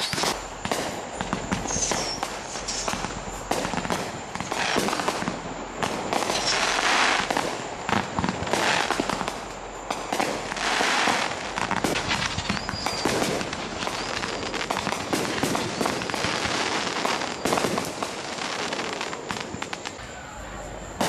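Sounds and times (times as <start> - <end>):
firework bangs: 0.0 - 21.0
fireworks crackling: 0.0 - 21.0.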